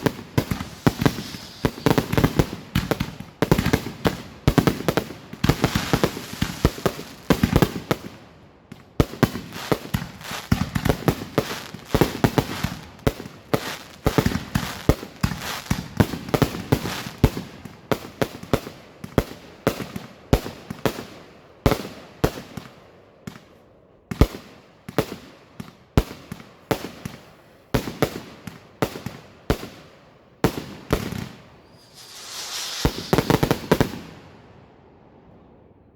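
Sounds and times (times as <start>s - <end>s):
fireworks bangs and crackling: 0.0s - 23.5s, 24.1s - 35.2s.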